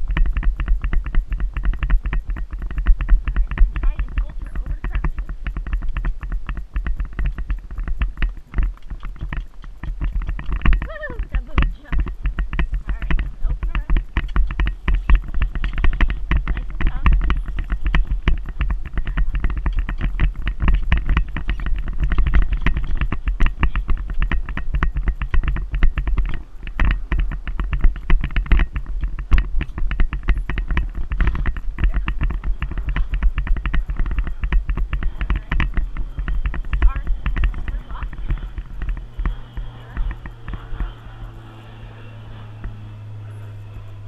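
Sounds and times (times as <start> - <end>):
horse hoofbeats and tack clatter: 0.0 - 43.0
wind on microphone: 0.0 - 44.0.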